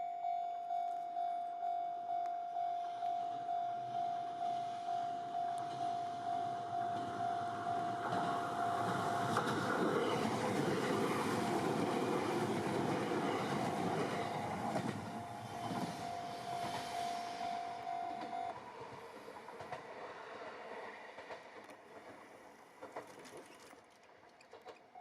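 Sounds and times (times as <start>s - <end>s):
diesel train running past: 2.6s - 23.2s.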